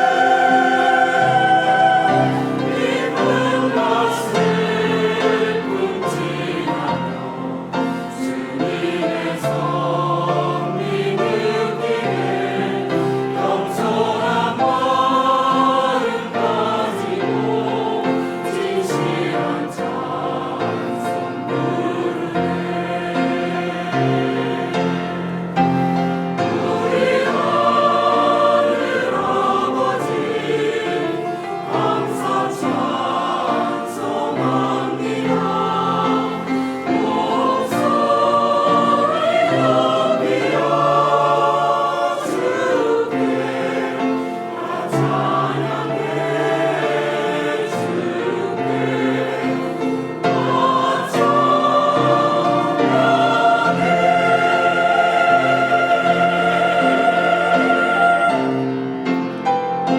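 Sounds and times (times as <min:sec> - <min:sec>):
church choir singing a hymn: 0:00.0 - 0:59.9.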